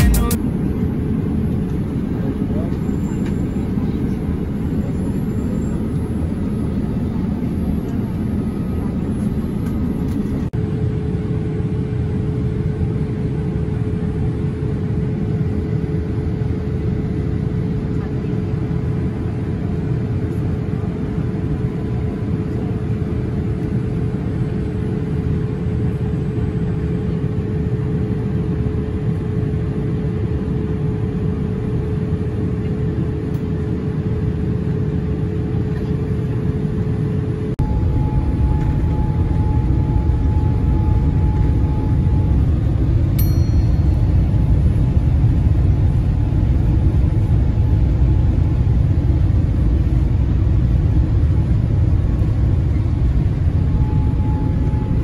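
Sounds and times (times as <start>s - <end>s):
steady hum tone: 0.0s - 18.0s, 22.8s - 55.0s
airliner cabin engine rush: 0.0s - 55.0s.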